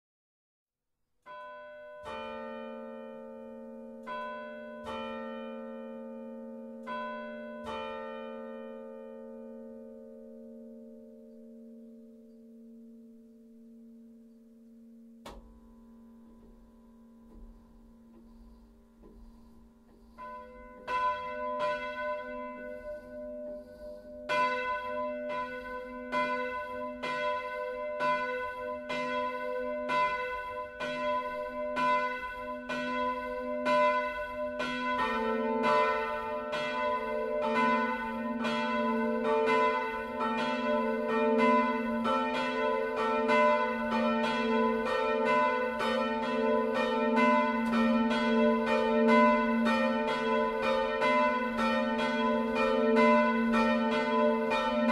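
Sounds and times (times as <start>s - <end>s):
swinging church bells ringing: 1.3s - 14.0s, 15.3s - 54.9s.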